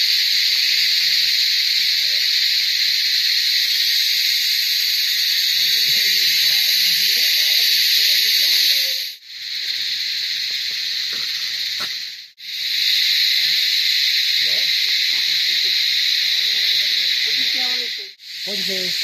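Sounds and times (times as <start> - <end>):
shrill insect chorus: 0.0 - 19.0.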